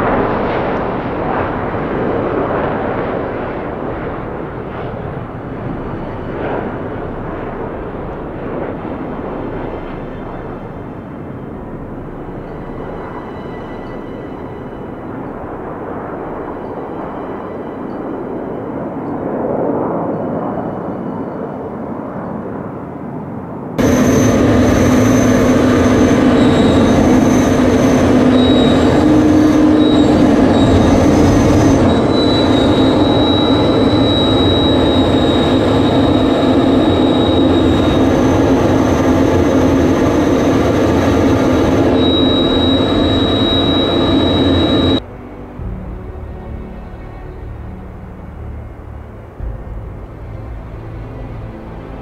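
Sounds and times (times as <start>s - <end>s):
high steady whine: 0.0s - 20.5s, 23.8s - 52.0s
cockpit engine and air noise: 0.0s - 52.0s
jet engines rumbling overhead: 0.0s - 52.0s.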